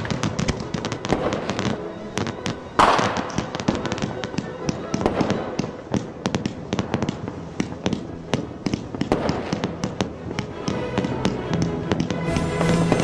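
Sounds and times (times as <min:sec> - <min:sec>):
music with held notes: 0:00.0 - 0:06.8, 0:09.3 - 0:13.0
fireworks banging and crackling: 0:00.0 - 0:13.0.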